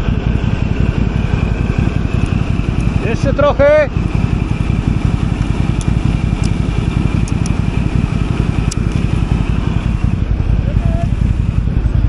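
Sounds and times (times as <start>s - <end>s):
high whine: 0.0s - 12.0s
quad engine running: 0.0s - 12.0s.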